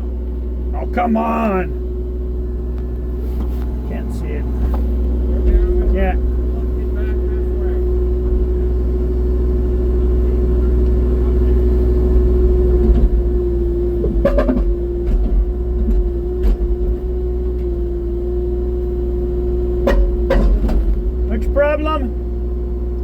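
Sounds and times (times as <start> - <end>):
excavator engine rumbling: 0.0 - 23.0.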